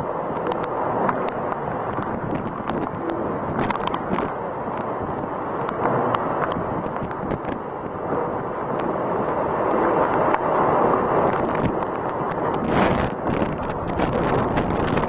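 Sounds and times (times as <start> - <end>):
driving rain: 0.0 - 15.0
wind rushing through trees: 0.0 - 15.0.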